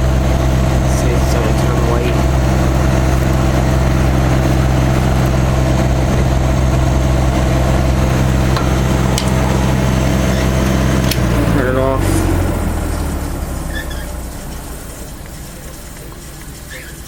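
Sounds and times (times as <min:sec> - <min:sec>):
dehumidifier humming: 0:00.0 - 0:17.0.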